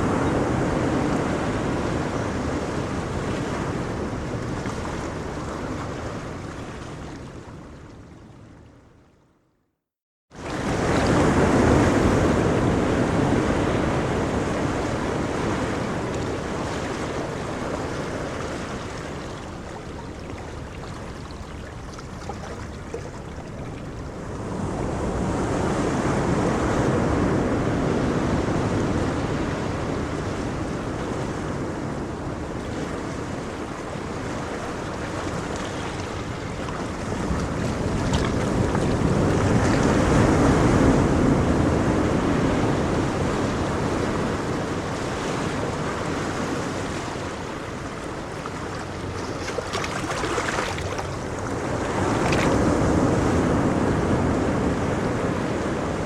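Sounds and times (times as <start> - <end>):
ocean waves breaking: 0.0 - 8.6, 10.4 - 56.0
wind on microphone: 10.4 - 56.0.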